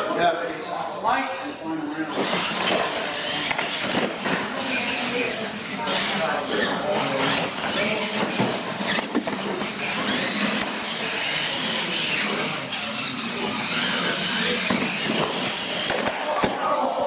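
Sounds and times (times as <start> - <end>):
electric motors and gears whining: 2.1 - 16.4.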